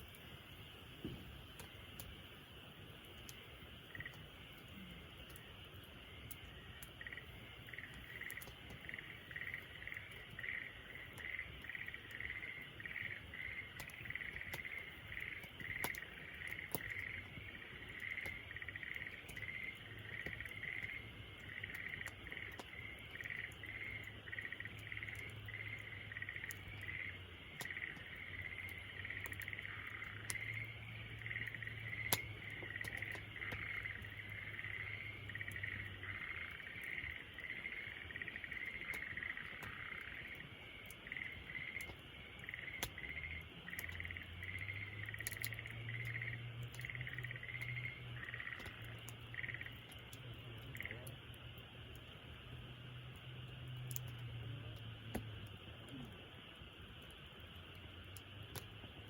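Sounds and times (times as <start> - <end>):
crickets chirping: 0.0 - 59.0
wood fire crackling and popping: 0.0 - 59.0.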